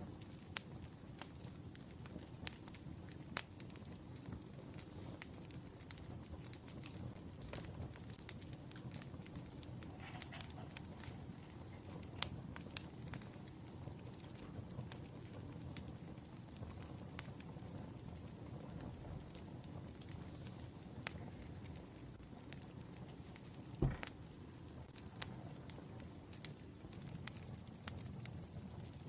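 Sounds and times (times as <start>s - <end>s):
low rumble of burning logs: 0.0s - 29.0s
wood fire crackling: 0.0s - 29.0s.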